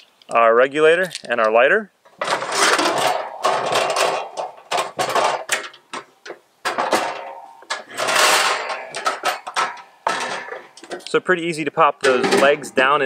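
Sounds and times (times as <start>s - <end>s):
metal grill rattling and scraping: 2.2s - 13.0s.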